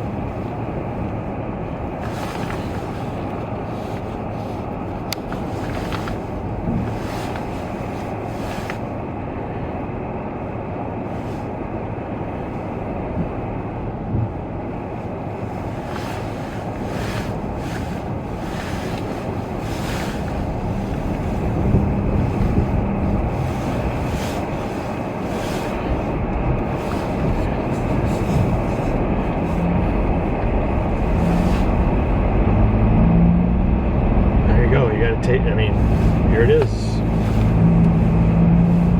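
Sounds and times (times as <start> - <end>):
road and wind noise: 0.0 - 38.9
vehicle engine drone: 0.0 - 38.9.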